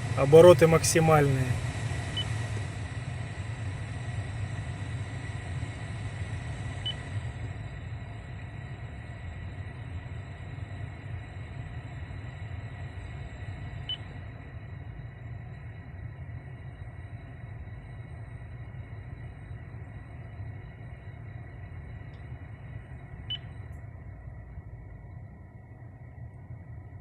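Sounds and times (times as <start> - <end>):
heater blower fan running: 0.0 - 27.0.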